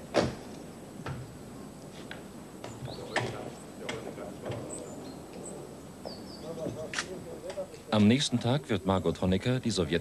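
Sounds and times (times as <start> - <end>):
small birds chirping: 0.5 - 9.0.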